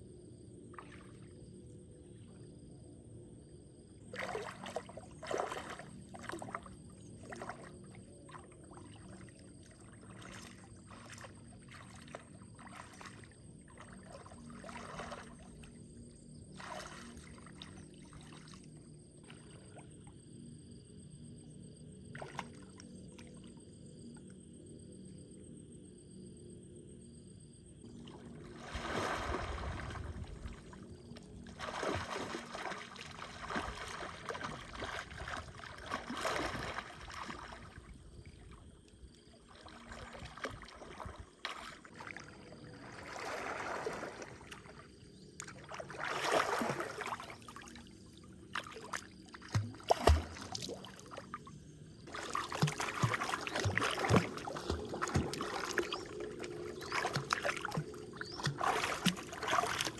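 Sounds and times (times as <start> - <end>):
water splashing and sloshing: 0.4 - 2.7, 3.7 - 24.8, 27.8 - 59.9.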